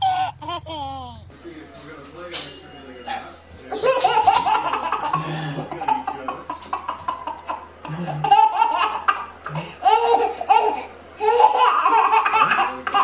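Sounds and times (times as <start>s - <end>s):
baby laughing: 0.0s - 1.3s, 3.7s - 13.0s.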